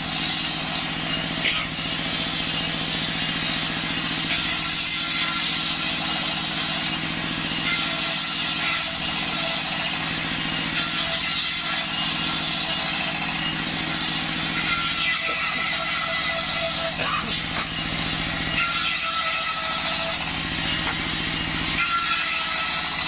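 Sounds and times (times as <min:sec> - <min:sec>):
diesel engine running: 0:00.0 - 0:10.9, 0:11.5 - 0:14.6, 0:15.2 - 0:18.6, 0:19.7 - 0:21.8
saw blade whine: 0:00.0 - 0:23.0.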